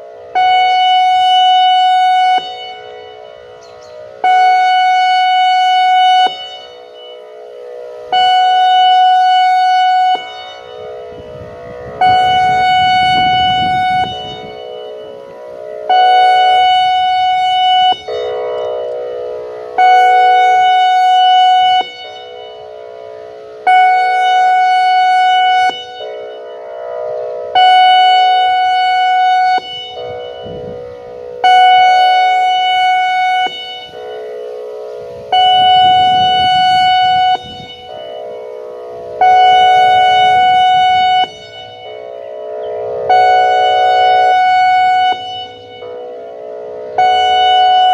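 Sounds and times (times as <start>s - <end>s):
warning siren blasts: 0.0s - 47.9s.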